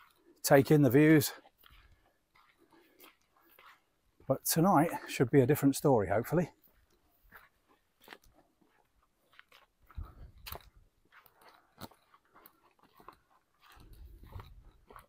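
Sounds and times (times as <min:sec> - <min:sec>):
footsteps on grass: 0:00.0 - 0:15.0.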